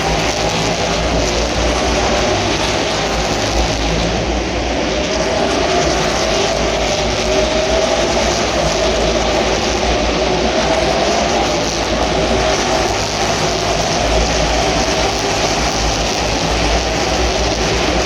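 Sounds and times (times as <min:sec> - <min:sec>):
race car engines roaring: 0:00.0 - 0:18.0.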